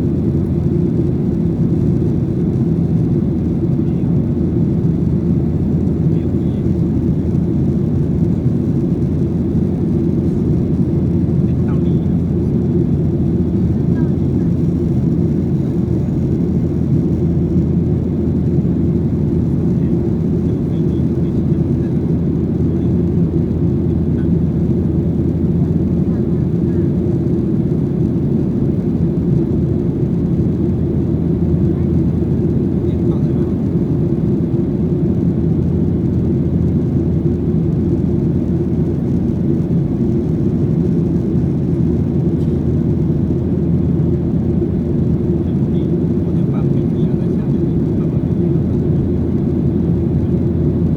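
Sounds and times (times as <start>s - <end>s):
airplane cabin engine roar: 0.0s - 50.9s.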